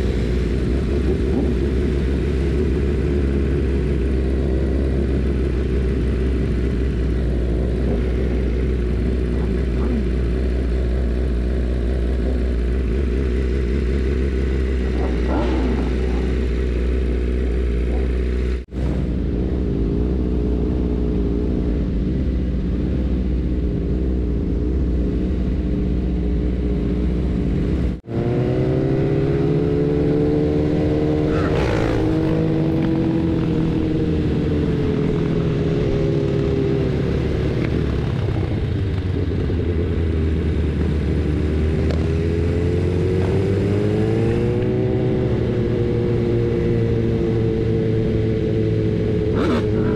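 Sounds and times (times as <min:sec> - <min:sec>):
group of motorcycles: 0:00.0 - 0:49.9
motorcycle pulling away: 0:00.0 - 0:49.9.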